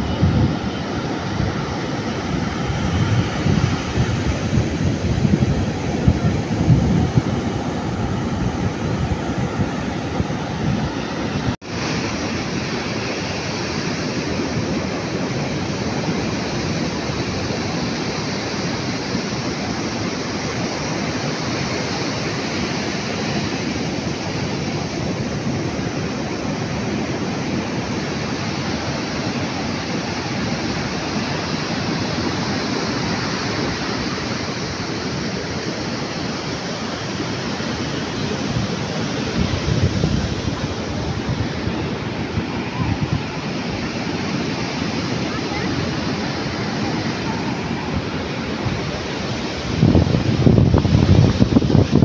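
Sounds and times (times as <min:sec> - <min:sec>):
ocean surf breaking on beach: 0:00.0 - 0:52.0
wind rumbling on microphone: 0:00.0 - 0:52.0.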